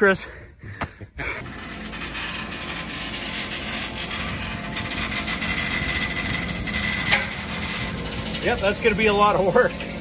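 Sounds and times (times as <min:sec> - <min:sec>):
power tool rattling: 0:01.2 - 0:10.0
high whine: 0:01.5 - 0:10.0.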